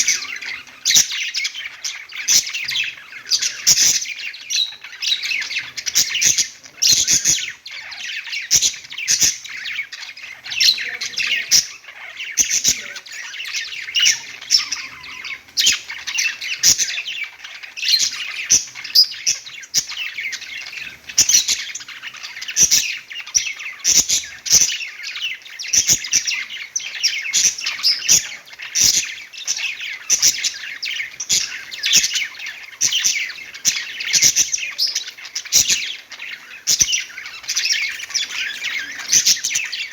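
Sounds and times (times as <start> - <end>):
budgerigar squawks: 0.0 - 23.0, 25.7 - 39.9
budgerigars chirping and warbling: 0.0 - 39.9.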